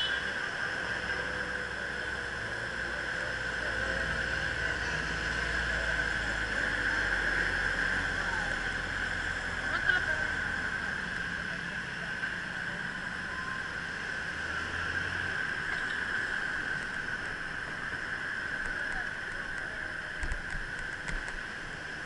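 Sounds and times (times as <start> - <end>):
road and wind noise: 0.0 - 22.0.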